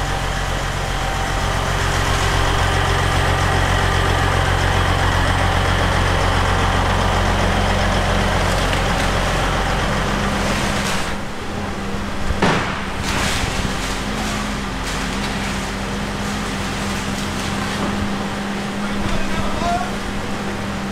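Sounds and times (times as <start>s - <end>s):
diesel machinery engine drone: 0.0s - 20.9s.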